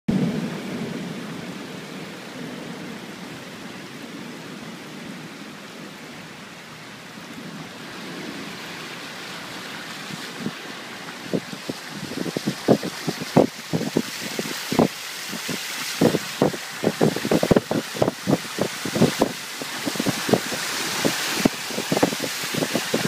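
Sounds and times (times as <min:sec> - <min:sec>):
heavy rain pouring: 0:00.1 - 0:23.0.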